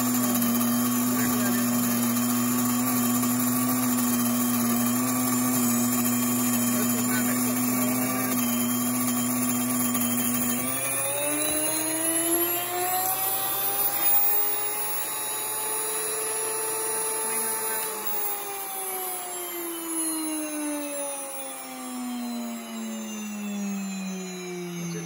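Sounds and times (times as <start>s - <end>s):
electric grain mill motor whine: 0.0s - 25.0s.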